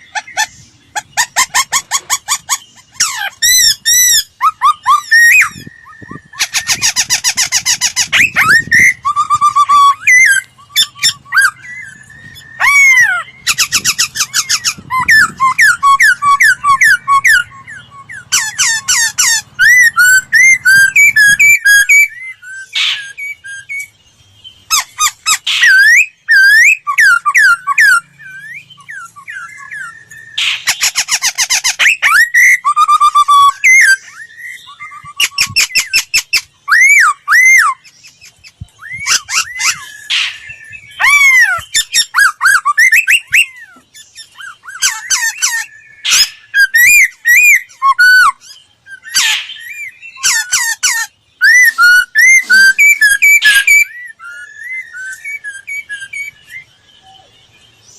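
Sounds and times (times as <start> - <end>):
bird singing whistled notes: 0.0 - 57.9
harsh rasping bird calls: 0.0 - 57.9.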